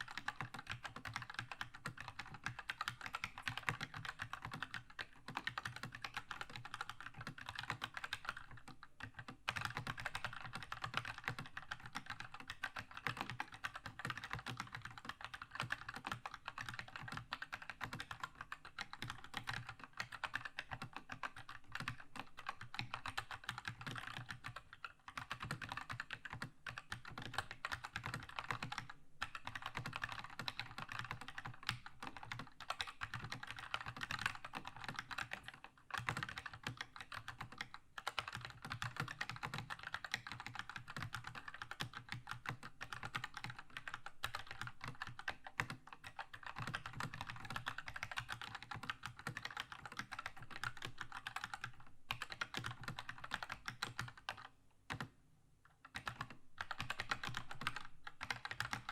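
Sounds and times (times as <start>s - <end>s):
fast typing on mechanical keyboard: 0.0s - 55.1s, 55.8s - 58.9s.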